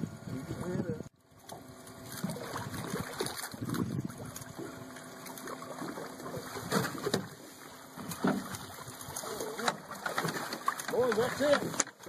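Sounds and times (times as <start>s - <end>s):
fish thrashing and splashing: 1.4s - 12.0s.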